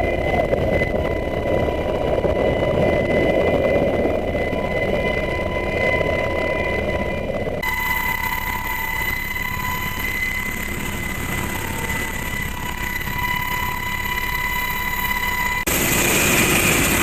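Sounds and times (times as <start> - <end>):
helicopter rotor rumble: 0.0 - 17.0
helicopter turbine whine: 0.0 - 17.0.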